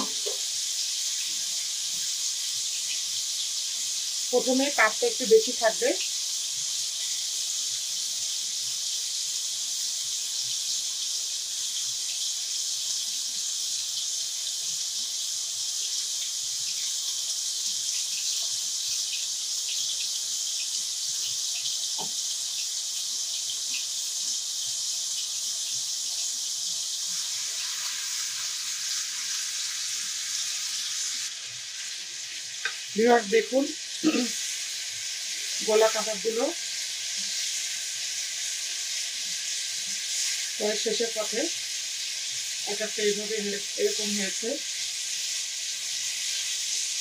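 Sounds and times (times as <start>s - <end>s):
meat sizzling in frying pan: 0.0s - 47.0s
spatula turning food in pan: 0.0s - 47.0s.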